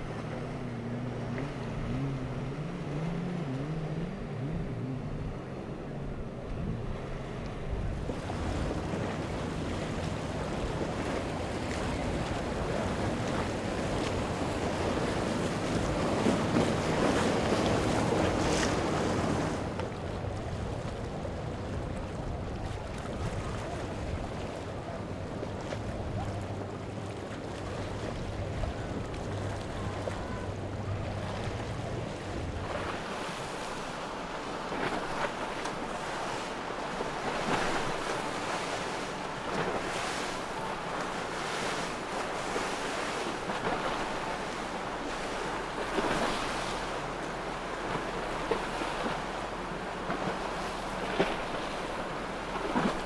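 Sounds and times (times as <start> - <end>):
boat engine hum: 0.0 - 53.0
bow wash and surf rushing: 0.0 - 53.0.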